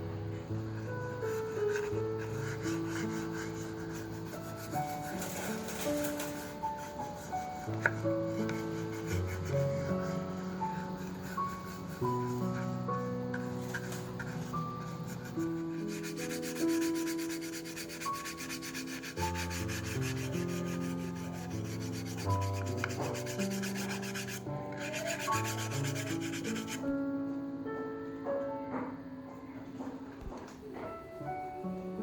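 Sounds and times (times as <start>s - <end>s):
background music: 0.0s - 32.0s
sanding rubbing strokes: 1.2s - 26.8s.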